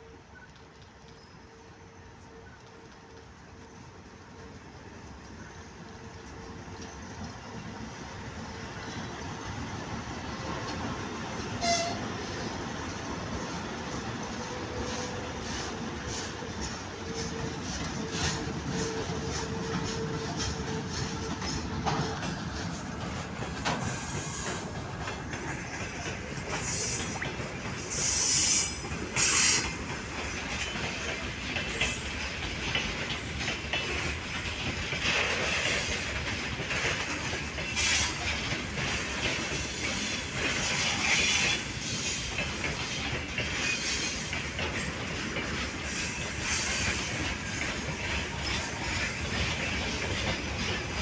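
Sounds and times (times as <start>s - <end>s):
train wheels clattering over rails: 2.3s - 51.0s.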